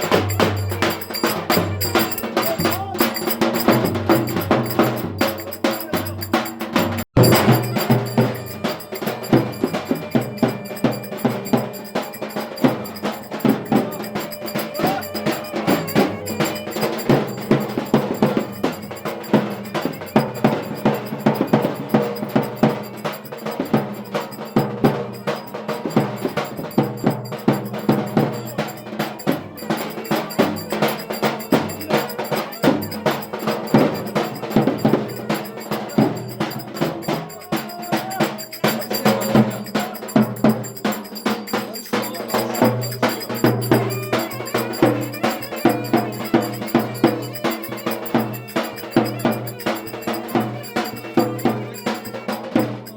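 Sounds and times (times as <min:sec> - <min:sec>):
clicking percussion rhythm: 0:00.0 - 0:52.9
folk dance music: 0:00.0 - 0:52.9.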